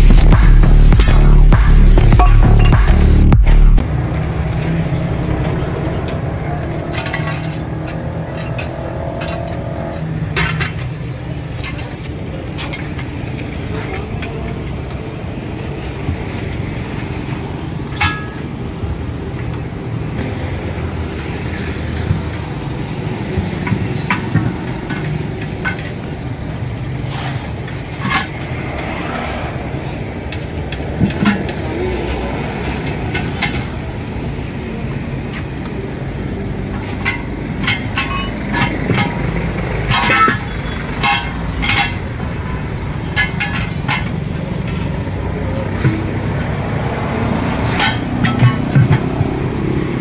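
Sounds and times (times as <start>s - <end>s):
tire tools clinking on metal: 2.1s - 3.2s, 3.8s - 50.0s.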